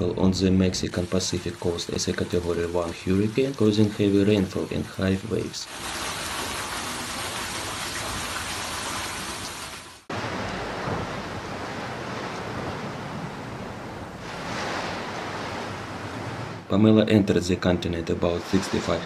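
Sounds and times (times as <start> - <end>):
heavy rain and wind: 0.0 - 17.3, 18.0 - 19.0.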